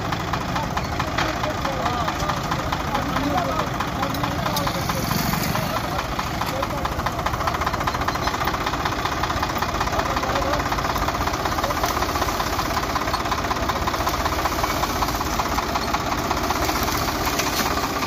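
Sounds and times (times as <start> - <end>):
tractor diesel engine clattering: 0.0 - 18.0.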